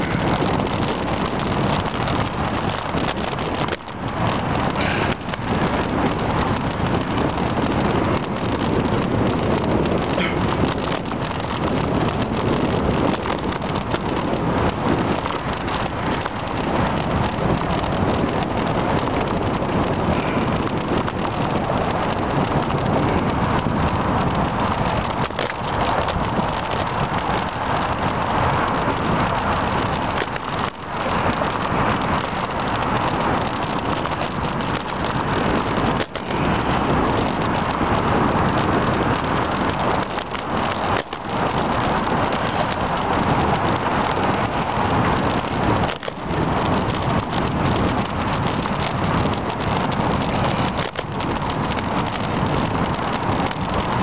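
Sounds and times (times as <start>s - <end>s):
wind rushing across microphone: 0.0s - 54.0s.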